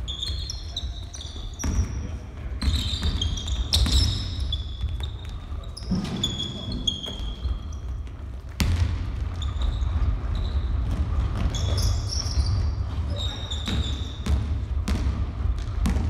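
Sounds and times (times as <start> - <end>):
sneakers squeaking: 0.0 - 16.0
footsteps on gym floor: 0.9 - 16.0
basketball bouncing: 1.6 - 6.4, 7.0 - 16.0.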